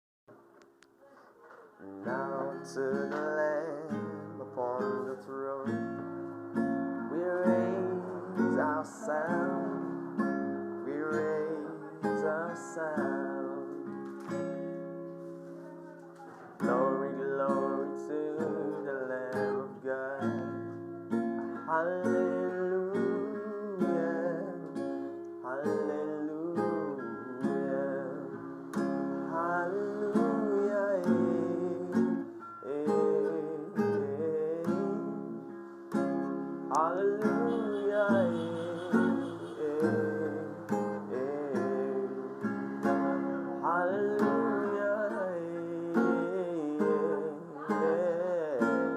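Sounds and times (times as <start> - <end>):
person singing: 1.0 - 6.1, 7.0 - 14.2, 15.5 - 20.8, 21.6 - 48.9
acoustic guitar strumming: 1.4 - 48.9.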